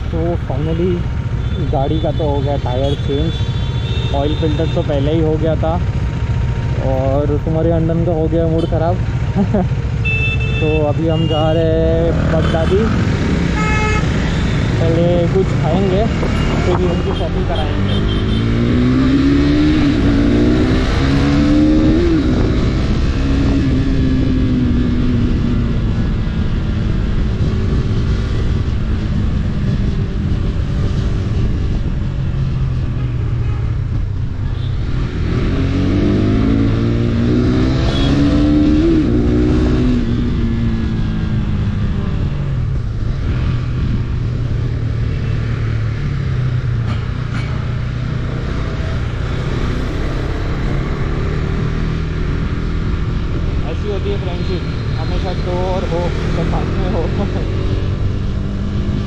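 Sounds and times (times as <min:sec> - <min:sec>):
motorcycle engine revving: 0:00.0 - 0:33.0, 0:33.7 - 0:59.0
wind and road noise: 0:00.0 - 0:59.0.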